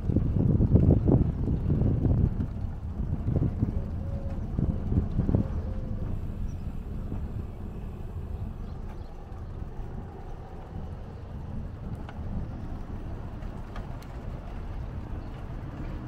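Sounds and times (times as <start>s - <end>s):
bicycle tyres rolling on road: 0.0s - 16.0s
bike clicks and rattles: 0.0s - 16.0s
wind on microphone: 0.0s - 16.0s.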